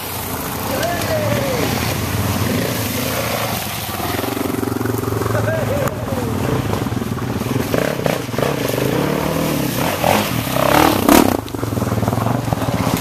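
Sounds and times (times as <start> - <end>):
motorcycle engine revving: 0.0 - 13.0
stream flowing: 0.0 - 13.0.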